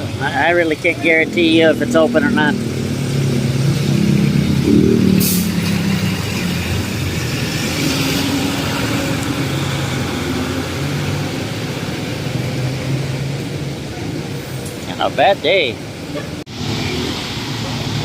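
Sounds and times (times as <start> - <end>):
traffic on wet roads: 0.0 - 18.0.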